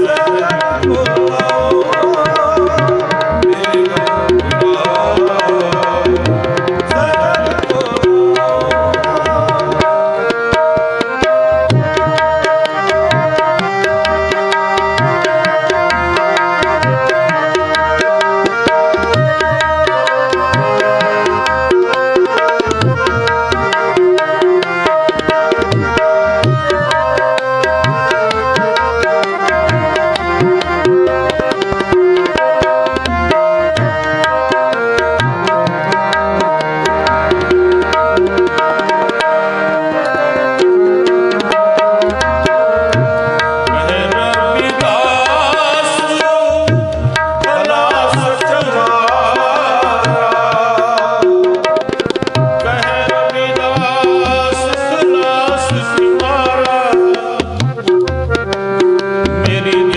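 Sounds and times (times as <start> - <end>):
harmonium melody: 0.0 - 59.9
tabla drums: 0.0 - 59.9.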